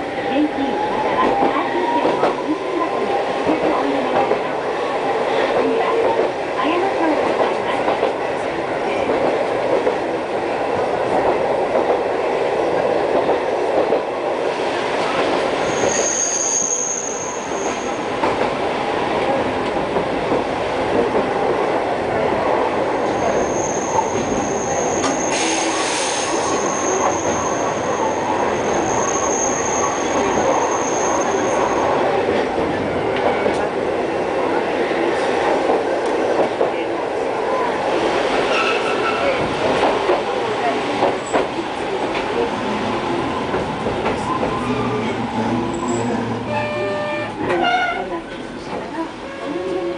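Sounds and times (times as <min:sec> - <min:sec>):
streetcar rumbling on track: 0:00.0 - 0:49.9.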